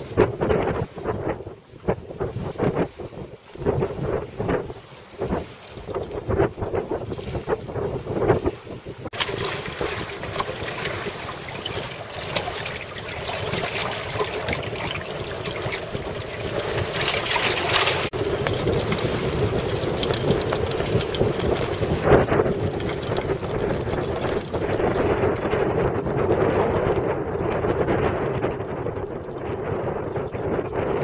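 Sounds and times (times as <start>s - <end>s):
water rushing past hull: 0.0s - 31.0s
wind buffeting microphone: 0.0s - 31.0s.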